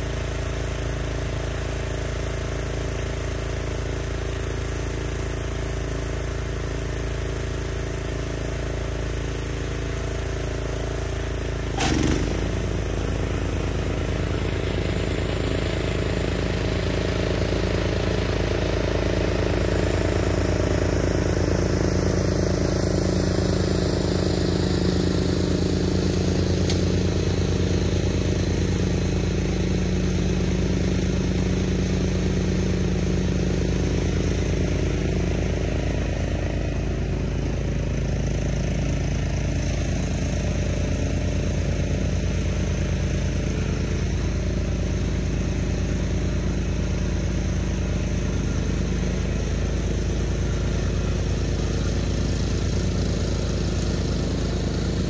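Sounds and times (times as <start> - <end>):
lawn mower engine cutting grass: 0.0 - 55.0.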